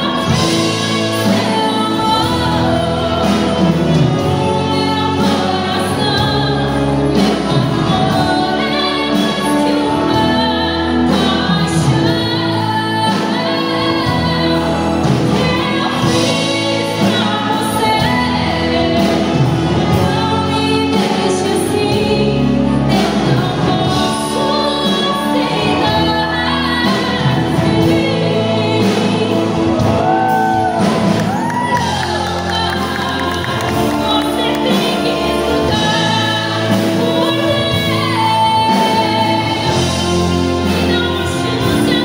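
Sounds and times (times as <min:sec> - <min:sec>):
live band playing: 0:00.0 - 0:42.0
woman singing into a microphone: 0:00.0 - 0:42.0.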